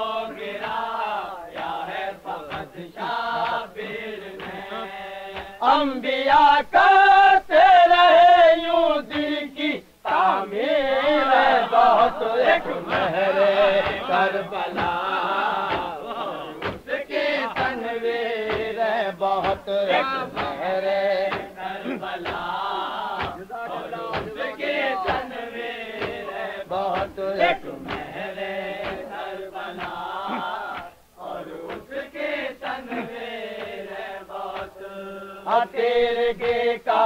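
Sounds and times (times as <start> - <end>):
men chanting together: 0.0 - 37.0.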